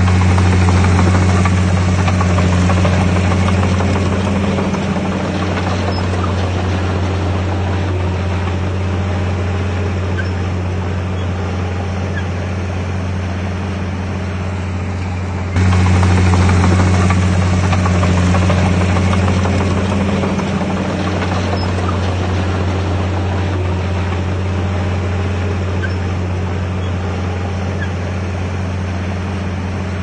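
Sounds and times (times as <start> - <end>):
bulldozer diesel engine humming: 0.0 - 30.0.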